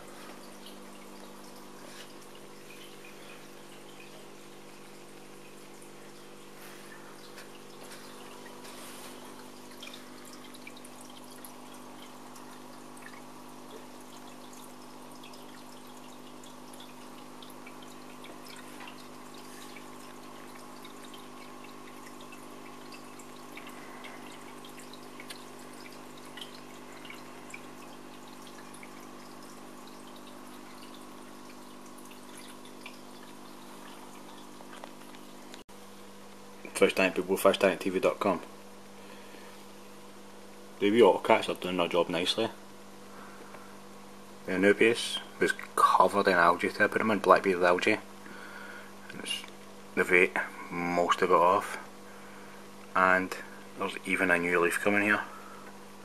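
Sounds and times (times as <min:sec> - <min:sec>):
aquarium filter hum: 0:00.0 - 0:56.0
water trickling and splashing: 0:00.0 - 0:56.0.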